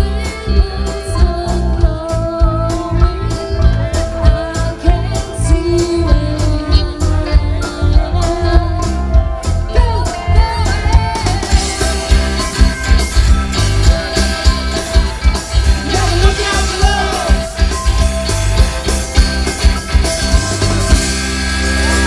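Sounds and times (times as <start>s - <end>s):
electric guitars: 0.0s - 22.0s
keyboard: 0.0s - 22.0s
steady drum beat: 0.0s - 22.0s.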